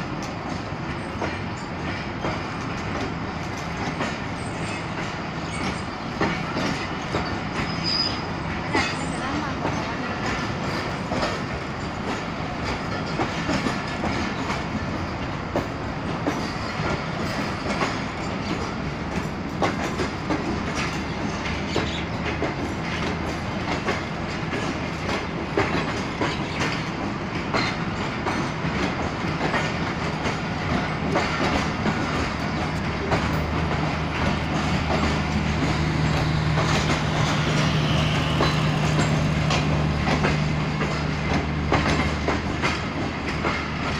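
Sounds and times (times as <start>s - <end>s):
train rumble: 0.0s - 43.9s
train wheels clicking over rail joints: 0.0s - 43.9s.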